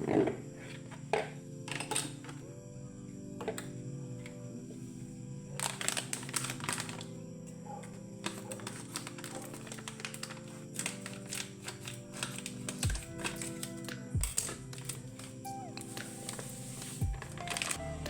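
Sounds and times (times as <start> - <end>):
background music with sustained chords: 0.0 - 18.0.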